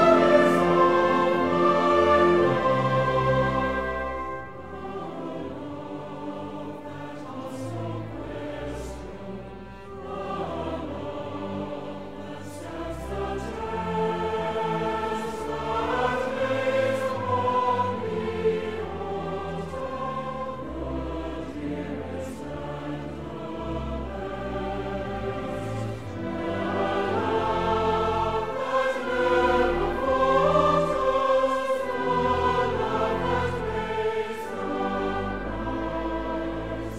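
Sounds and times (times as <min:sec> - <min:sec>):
choir singing sustained notes: 0:00.0 - 0:36.9
orchestral music: 0:00.0 - 0:36.9.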